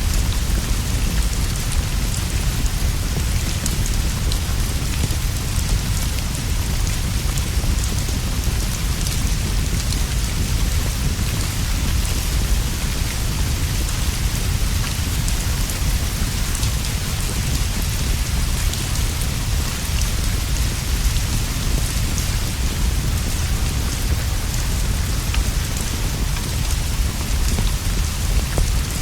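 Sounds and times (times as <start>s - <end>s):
heavy rain on leaves and roof: 0.0s - 29.0s.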